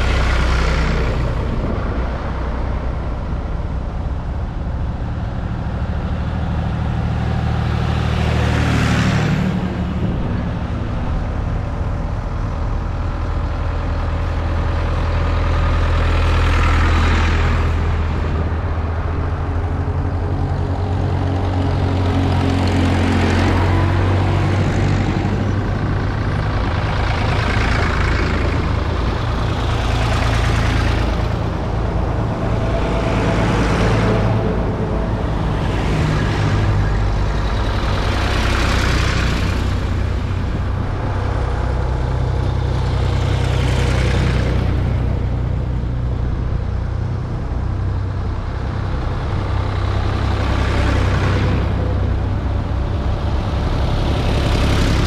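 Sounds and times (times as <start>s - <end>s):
tractor engines running: 0.0s - 55.0s
tractors driving past: 0.0s - 55.0s.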